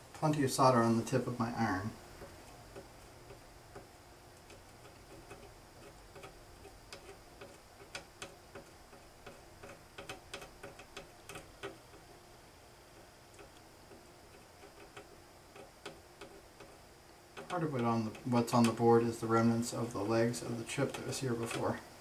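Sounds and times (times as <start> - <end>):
soldering iron clicking and ticking: 2.1 - 12.2, 12.9 - 21.8.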